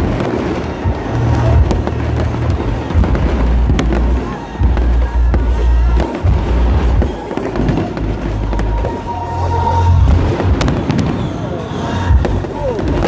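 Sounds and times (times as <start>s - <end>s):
firework shells booming: 0.0s - 9.2s, 10.1s - 13.0s
firework cracks: 0.0s - 13.0s.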